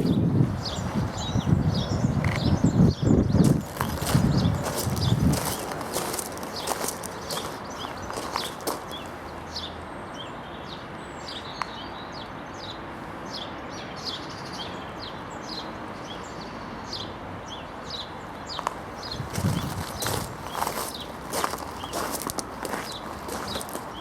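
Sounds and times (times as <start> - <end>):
constant background noise: 0.0 - 24.0
small birds chirping: 0.0 - 24.0.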